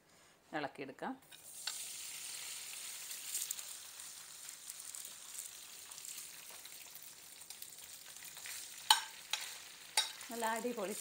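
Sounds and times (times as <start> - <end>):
oil sizzling in a frying pan: 1.2 - 11.0.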